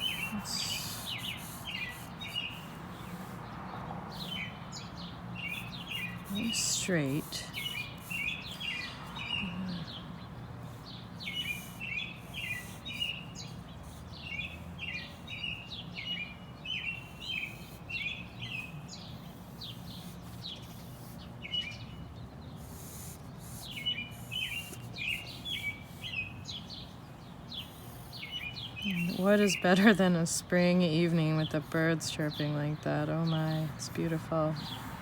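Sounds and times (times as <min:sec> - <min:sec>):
robin singing: 0:00.0 - 0:35.0.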